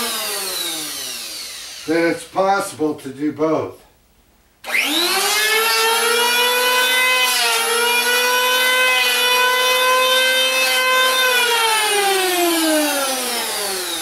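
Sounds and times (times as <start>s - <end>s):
power tool shaving wood: 0.0s - 2.1s, 4.6s - 14.0s.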